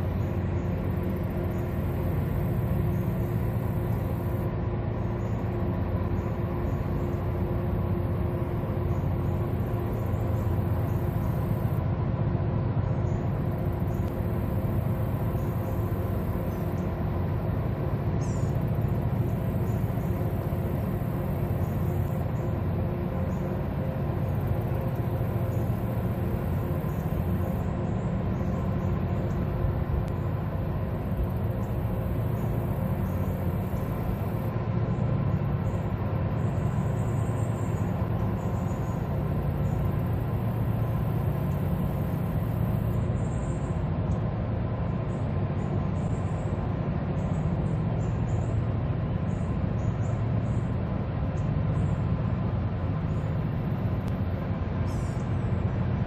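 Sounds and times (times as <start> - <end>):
diesel engines rumbling: 0.0 - 56.0
steady hum: 0.0 - 56.0.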